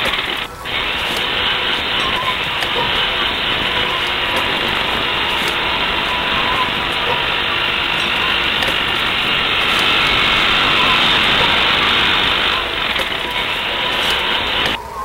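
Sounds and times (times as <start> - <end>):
dense mechanical din: 0.0 - 14.8.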